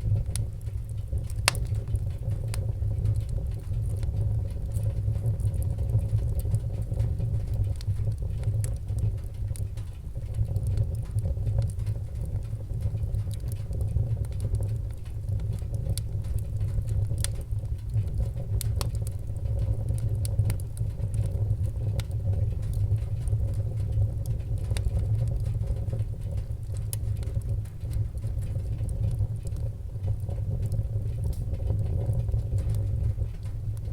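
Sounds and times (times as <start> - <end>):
fire crackles and pops: 0.0 - 33.9
wood fire rumbling in stove: 0.0 - 33.9.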